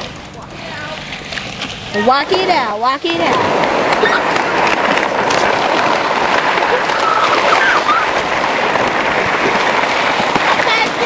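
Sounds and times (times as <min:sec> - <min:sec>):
wind buffeting microphone: 0:00.0 - 0:11.0
wheels rolling over asphalt: 0:00.1 - 0:11.0.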